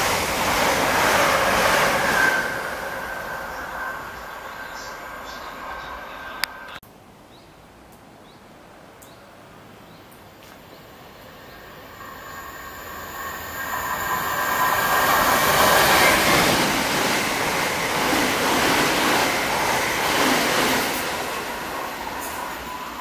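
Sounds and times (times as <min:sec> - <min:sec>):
train passing at speed: 0:00.0 - 0:06.8, 0:10.7 - 0:23.0
wheels rushing on rails: 0:00.0 - 0:06.8, 0:10.9 - 0:23.0.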